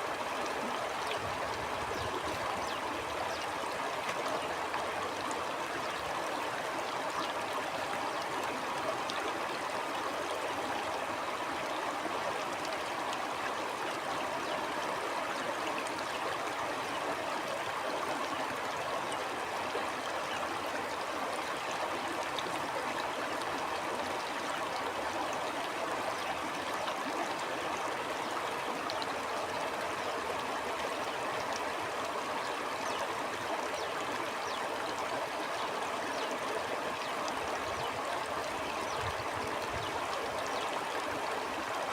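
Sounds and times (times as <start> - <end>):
stream flowing over rocks: 0.0 - 41.9.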